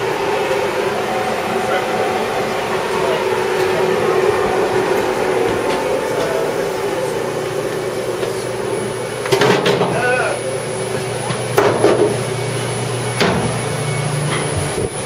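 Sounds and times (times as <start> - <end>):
spray-painting equipment humming: 0.0 - 15.0.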